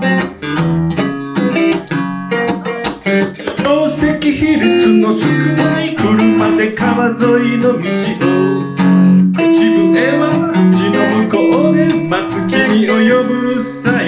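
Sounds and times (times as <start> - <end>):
electric guitar picking notes and chords: 0.0 - 14.0.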